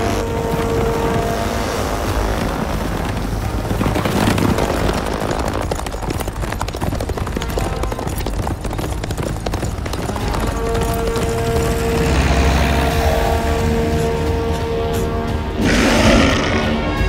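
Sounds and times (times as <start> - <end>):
horses galloping: 0.0 - 16.7
film music: 0.0 - 17.0.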